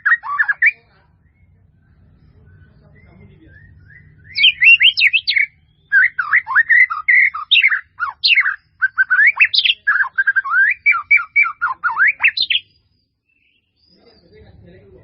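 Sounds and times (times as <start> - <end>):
bird singing: 0.0 - 15.0.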